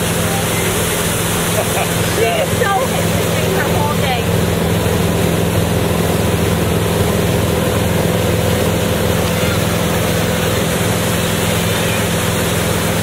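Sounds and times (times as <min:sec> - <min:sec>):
boat engine droning: 0:00.0 - 0:13.0
water churning: 0:00.0 - 0:13.0.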